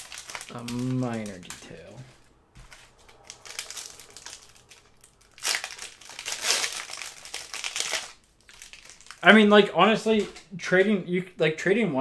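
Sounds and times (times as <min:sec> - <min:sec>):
plastic wrappers crinkling: 0:00.0 - 0:10.5.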